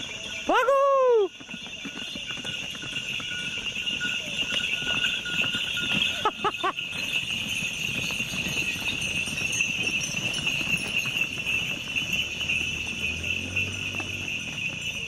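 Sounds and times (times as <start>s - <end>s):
cattle bells jingling: 0.0s - 15.0s
hooves thudding on dirt: 0.0s - 15.0s.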